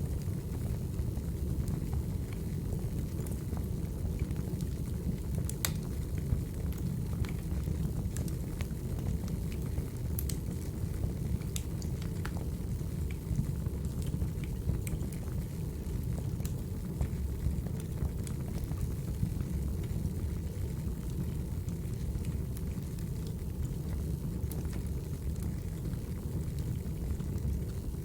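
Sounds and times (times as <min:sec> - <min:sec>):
crackling wood fire: 0:00.0 - 0:28.0.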